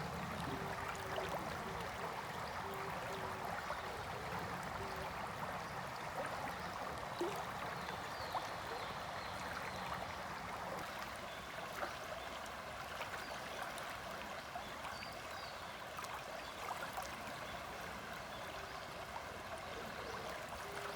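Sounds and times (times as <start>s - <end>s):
river water babbling: 0.0s - 20.9s.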